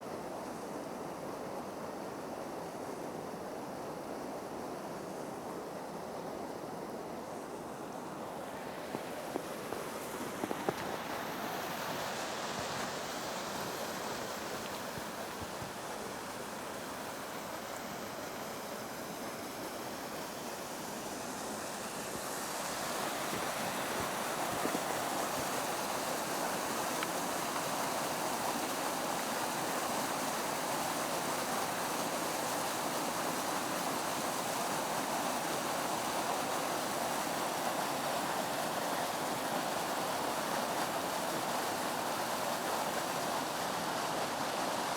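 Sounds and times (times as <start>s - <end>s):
water rushing over waterfall: 7.7s - 44.9s.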